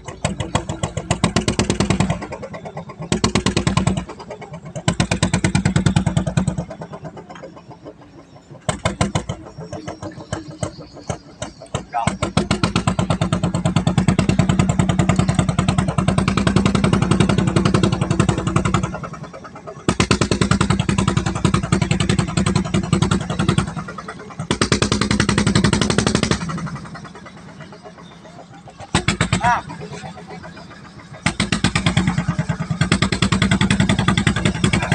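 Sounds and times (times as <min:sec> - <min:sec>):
diesel boat engine chugging: 0:00.0 - 0:34.9.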